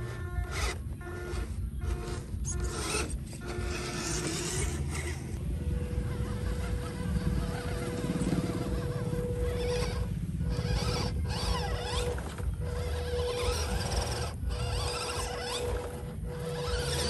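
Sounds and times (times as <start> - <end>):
toy truck electric motor whining: 0.0 - 17.0.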